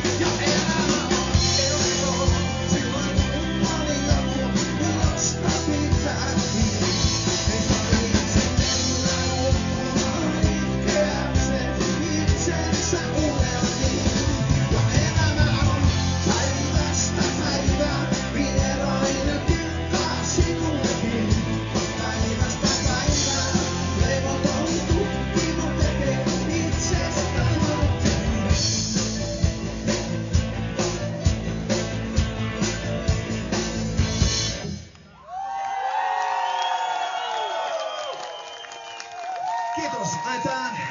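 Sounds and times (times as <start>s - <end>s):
drum kit steady beat: 0.0s - 34.8s
bass guitar: 0.0s - 35.0s
electric guitar: 0.0s - 35.0s.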